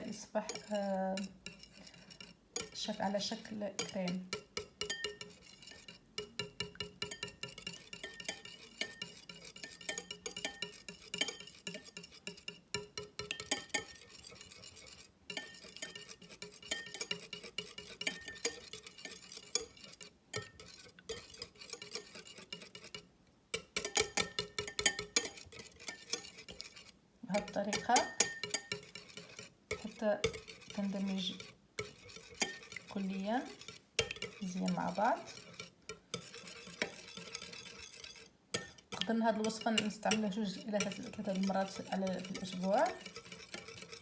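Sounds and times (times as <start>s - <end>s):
utensil clinking against bowl: 0.0s - 23.0s, 23.6s - 44.0s.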